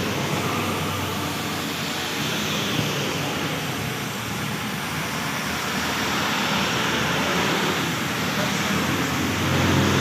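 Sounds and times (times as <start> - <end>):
diesel trucks passing: 0.0 - 10.0
rain: 0.0 - 10.0
tyres hissing through water: 0.0 - 10.0.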